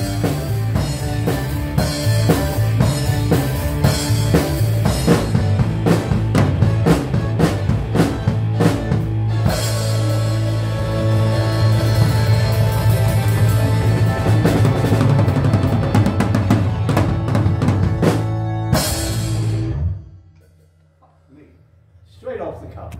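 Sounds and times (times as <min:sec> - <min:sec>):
rock band playing: 0:00.0 - 0:20.8.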